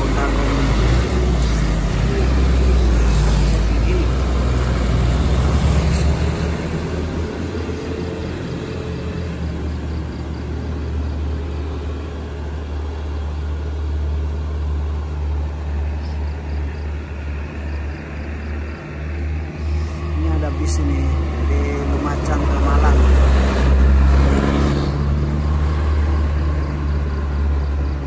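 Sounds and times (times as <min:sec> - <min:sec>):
truck engine rumble: 0:00.0 - 0:28.0.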